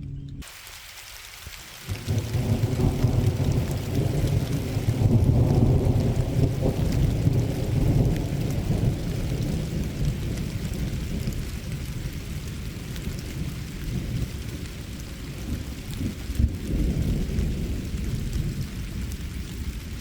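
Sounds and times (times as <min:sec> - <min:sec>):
light rain pattering: 0:00.4 - 0:20.0
thunder rumbling: 0:01.8 - 0:20.0.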